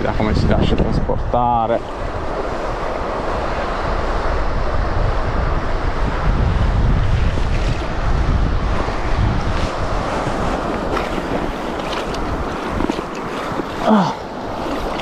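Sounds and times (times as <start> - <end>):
wind buffeting microphone: 0.0 - 15.0
river water rippling: 1.3 - 15.0.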